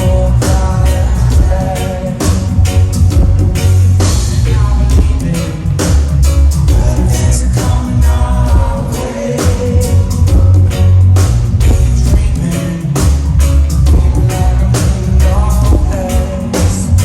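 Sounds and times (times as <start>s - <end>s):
person singing: 0.0s - 3.5s, 4.2s - 17.0s
reggae band playing: 0.0s - 17.0s.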